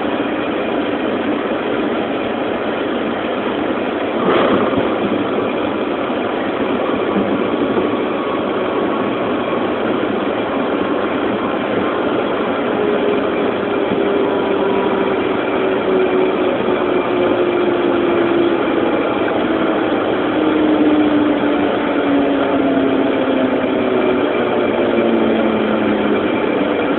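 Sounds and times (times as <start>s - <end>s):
jet engines rushing in cabin: 0.0s - 26.9s.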